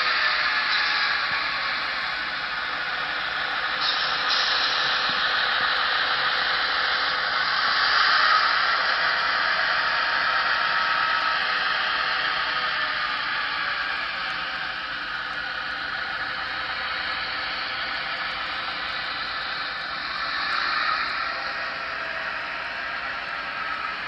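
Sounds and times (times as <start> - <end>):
model train wheels rushing on rails: 0.0 - 24.0.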